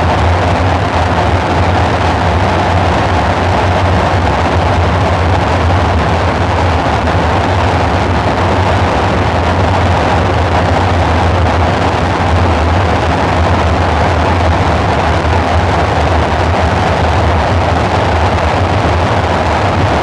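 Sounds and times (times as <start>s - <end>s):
dark ambient synthesizer drone: 0.0s - 20.0s.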